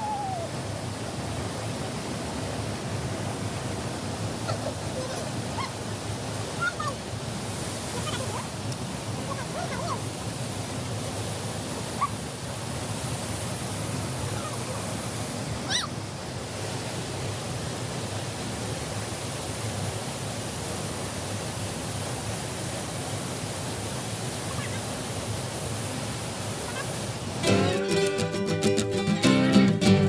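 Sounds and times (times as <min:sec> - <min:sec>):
flowing river water: 0:00.0 - 0:29.8.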